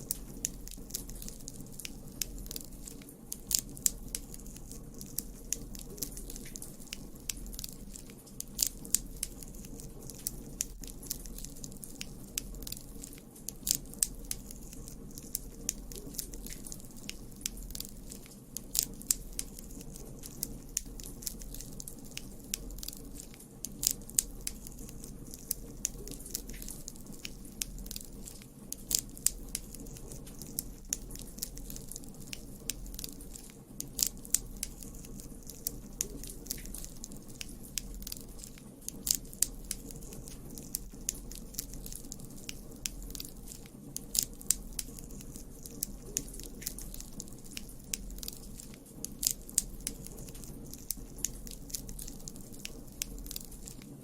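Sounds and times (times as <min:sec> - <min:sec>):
burning wood crackling: 0:00.0 - 0:54.0
flames rumbling: 0:00.0 - 0:54.0.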